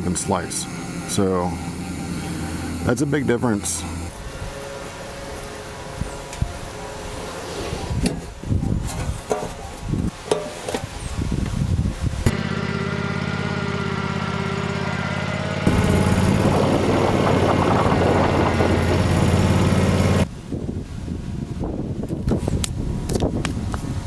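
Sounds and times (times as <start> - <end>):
riding mower engine running: 0.0 - 20.4.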